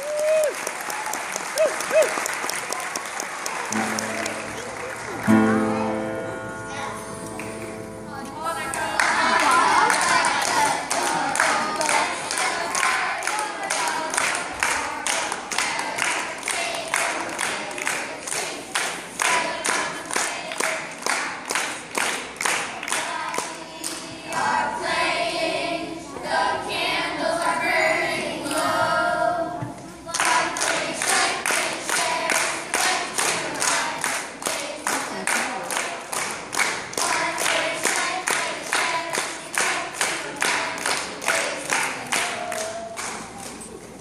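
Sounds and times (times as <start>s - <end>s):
rhythmic hand clapping: 0.3s - 6.0s, 7.2s - 8.0s, 8.6s - 24.6s, 30.1s - 43.6s
children's choir singing: 3.6s - 43.7s.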